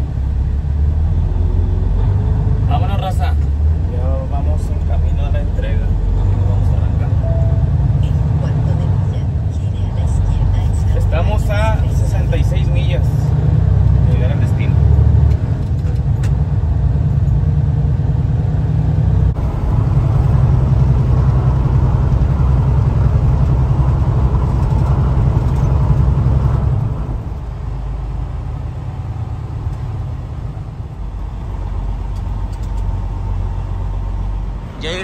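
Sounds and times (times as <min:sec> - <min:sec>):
road noise: 0:00.0 - 0:35.0
truck engine rumble: 0:00.0 - 0:35.0.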